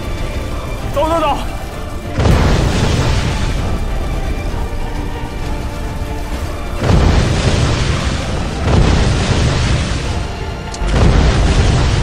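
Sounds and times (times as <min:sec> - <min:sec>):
background music: 0:00.0 - 0:12.0
pyrotechnic explosion booms: 0:00.0 - 0:12.0
rumbling: 0:00.0 - 0:12.0.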